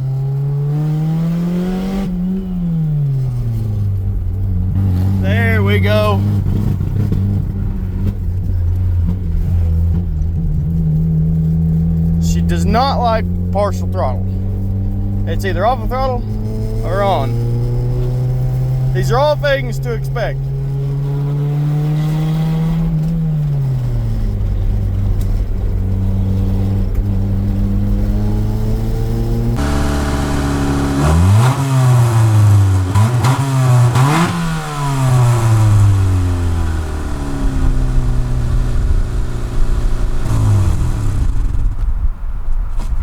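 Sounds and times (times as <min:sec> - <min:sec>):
car engine under way: 0:00.0 - 0:43.0.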